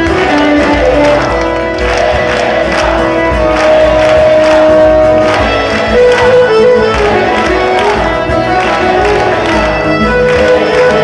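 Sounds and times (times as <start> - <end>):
crowd noise: 0.0 - 11.0
music with steady beat: 0.0 - 11.0.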